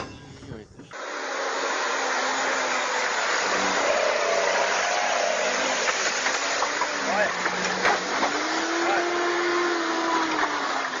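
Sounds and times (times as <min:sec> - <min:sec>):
moving vehicle rushing noise: 0:01.1 - 0:11.0.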